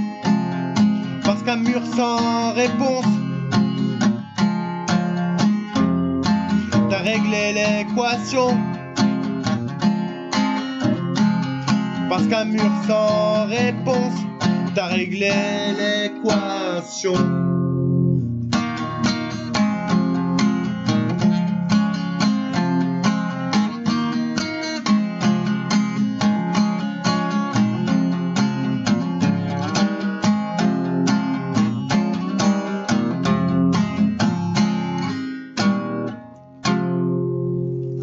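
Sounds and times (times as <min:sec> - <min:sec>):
guitar strumming chords: 0:00.0 - 0:38.0.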